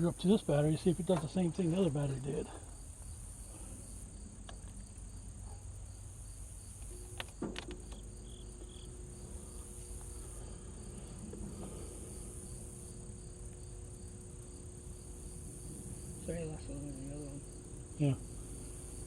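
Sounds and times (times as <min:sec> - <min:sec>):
crickets chirping: 0:00.0 - 0:19.0
faint steady hum: 0:00.0 - 0:19.0.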